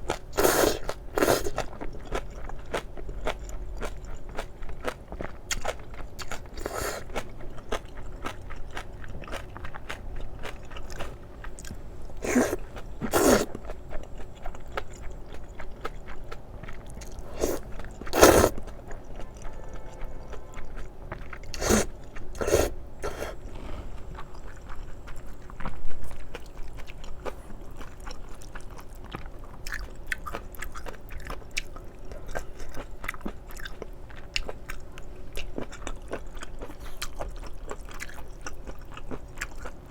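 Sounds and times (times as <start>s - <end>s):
wet chewing: 0.1s - 39.8s.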